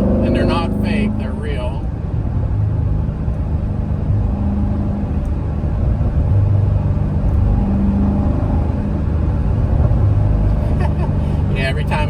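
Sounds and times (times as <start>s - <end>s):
deep car engine running: 0.0s - 12.0s.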